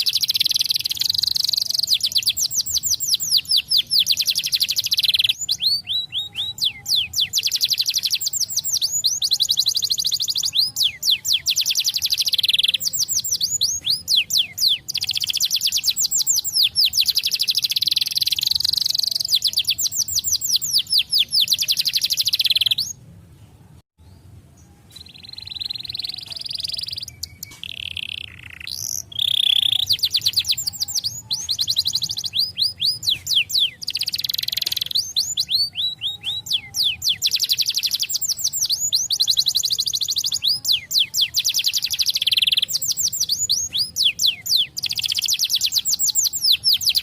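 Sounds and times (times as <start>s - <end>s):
canary singing trills: 0.0s - 23.0s, 24.2s - 47.0s.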